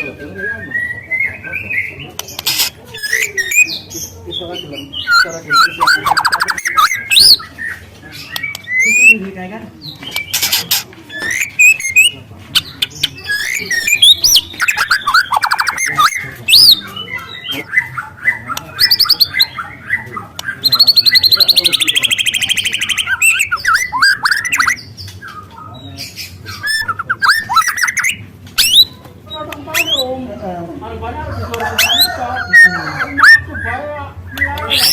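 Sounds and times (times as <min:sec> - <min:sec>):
bird singing whistles and chatters: 0:00.0 - 0:30.2, 0:31.5 - 0:34.9.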